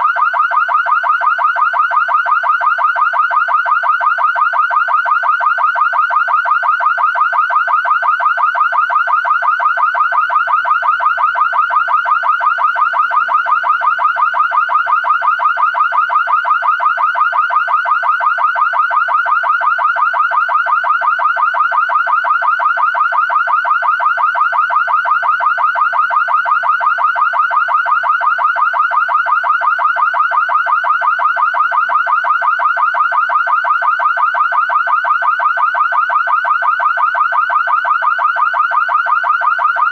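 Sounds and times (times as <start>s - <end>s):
car alarm siren warbling: 0.0s - 39.9s.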